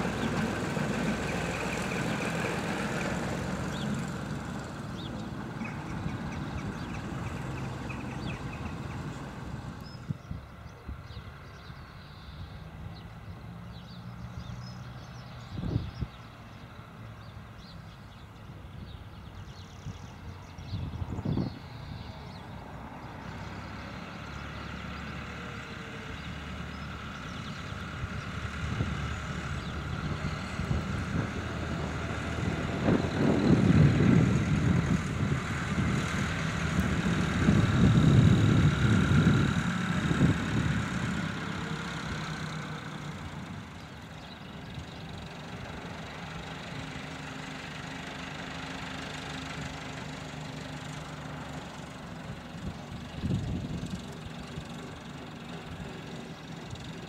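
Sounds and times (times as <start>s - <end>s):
tractor diesel engine driving past: 0.0s - 57.0s.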